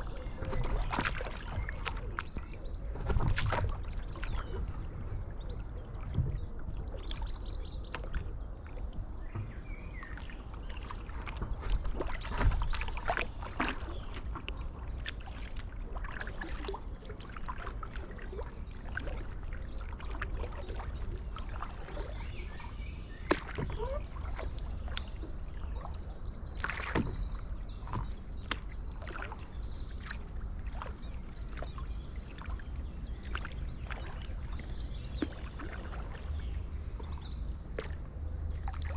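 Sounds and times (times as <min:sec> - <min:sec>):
paddle splashing in water: 0:00.0 - 0:38.9
wind rumble on microphone: 0:00.0 - 0:38.9.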